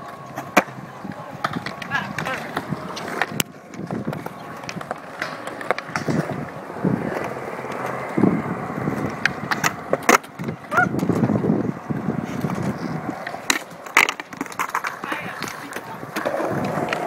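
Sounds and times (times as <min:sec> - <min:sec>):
skateboard clacking on ground: 0:00.0 - 0:17.0
skateboard wheels rolling on concrete: 0:00.0 - 0:17.0.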